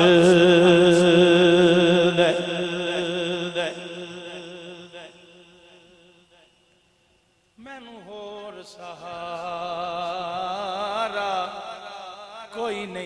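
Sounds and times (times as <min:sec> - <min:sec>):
man singing into a microphone: 0:00.0 - 0:06.5, 0:07.6 - 0:13.0.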